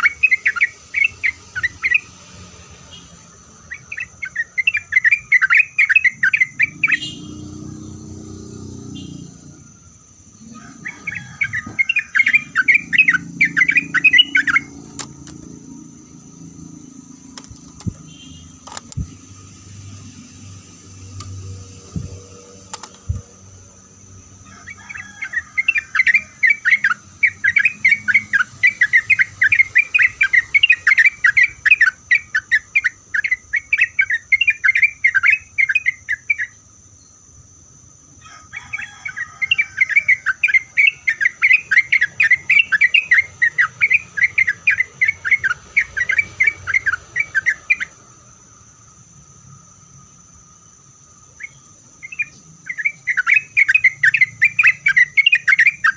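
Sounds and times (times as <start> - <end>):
bulbul chattering song: 0.0 - 37.8, 38.6 - 55.9.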